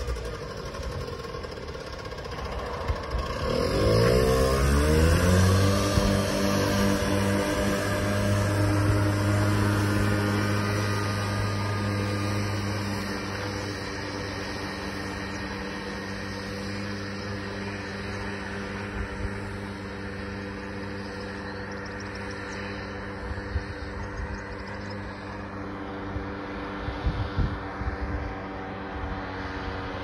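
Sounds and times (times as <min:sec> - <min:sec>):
two-stroke car engine running: 0:00.0 - 0:30.0.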